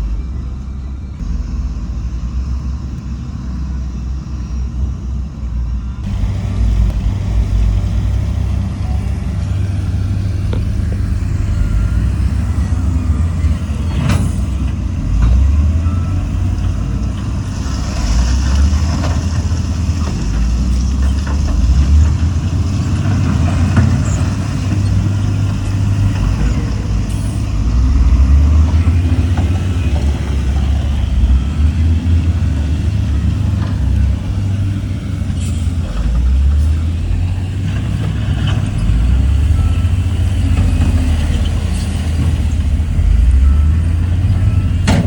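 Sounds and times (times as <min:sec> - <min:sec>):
heavy diesel engines rumbling: 0:00.0 - 0:45.0.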